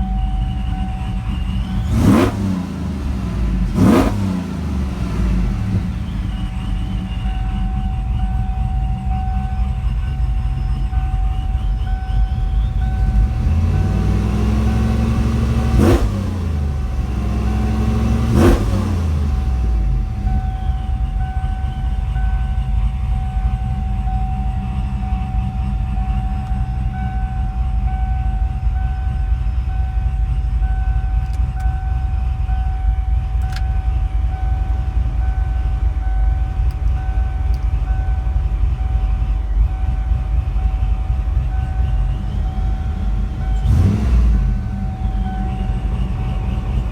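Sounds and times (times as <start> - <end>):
pickup engine idling and revving: 0.0 - 46.9
supercharger whine: 0.0 - 46.9.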